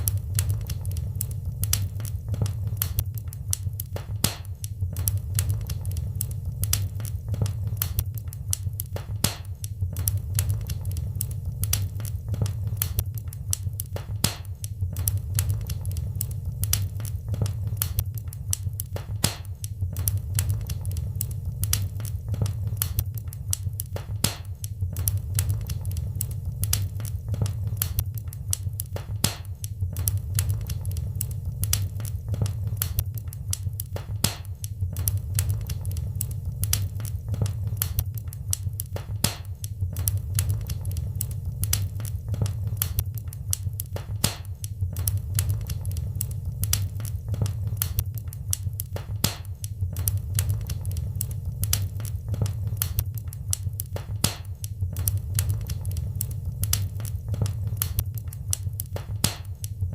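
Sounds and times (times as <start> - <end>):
fire crackling and popping: 0.0 - 59.9
fire low rumble: 0.0 - 59.9.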